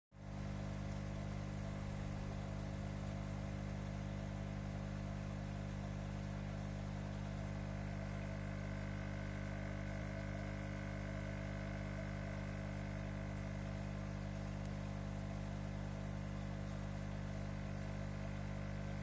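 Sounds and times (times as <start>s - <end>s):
aquarium pump humming: 0.2s - 19.0s.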